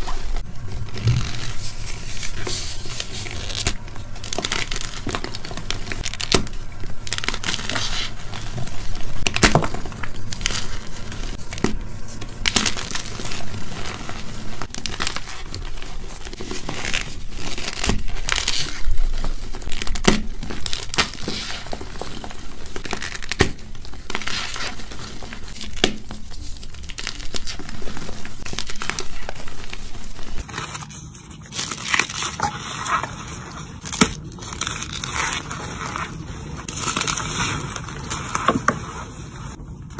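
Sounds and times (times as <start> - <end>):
chalk crumbling and crunching: 0.0 - 39.9.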